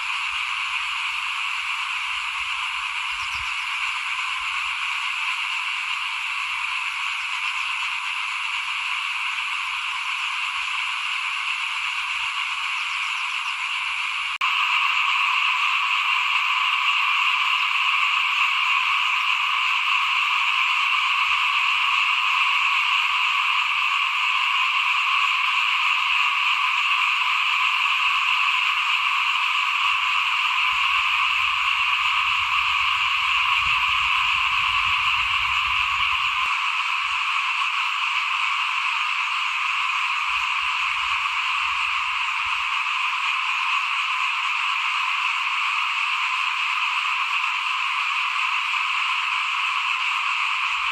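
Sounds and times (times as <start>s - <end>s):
frogs chorusing: 0.0s - 50.9s.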